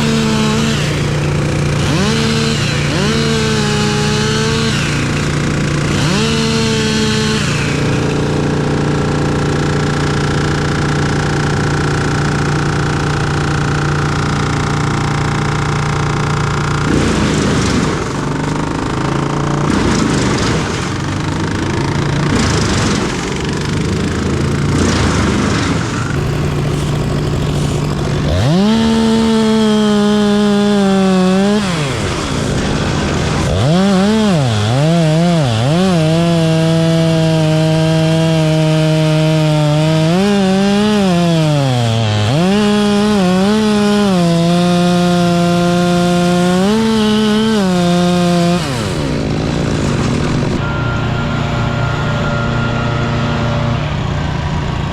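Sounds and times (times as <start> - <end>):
chainsaw revving: 0.0 - 54.9
engine drone: 0.0 - 54.9.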